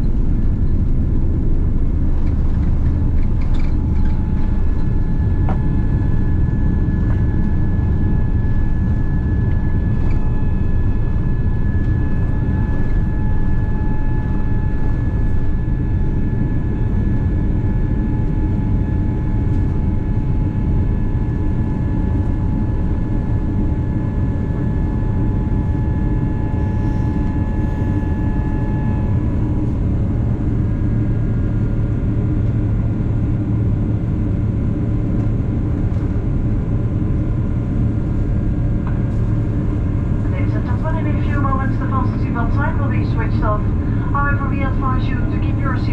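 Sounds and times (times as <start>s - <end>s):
airflow roar in cabin: 0.0s - 45.9s
jet engine rumble: 0.0s - 45.9s.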